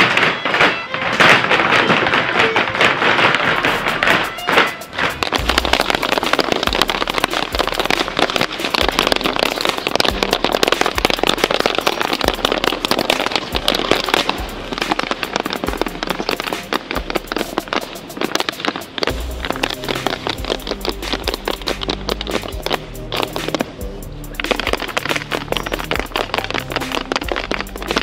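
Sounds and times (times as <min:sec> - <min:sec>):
hard shoes tapping on dance boards: 0:00.0 - 0:23.7, 0:24.4 - 0:28.0
music with steady bass beat: 0:01.8 - 0:28.0.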